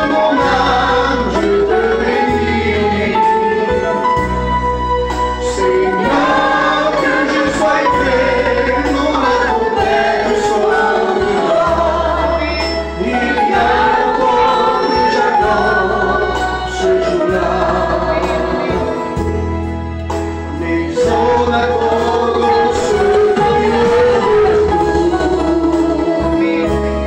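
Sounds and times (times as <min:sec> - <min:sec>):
worship song with singing: 0:00.0 - 0:04.5, 0:05.2 - 0:19.7, 0:20.3 - 0:27.0.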